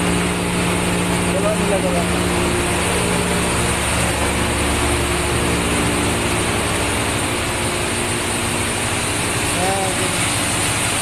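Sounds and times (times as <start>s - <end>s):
engine-room machinery drone: 0.0s - 11.0s.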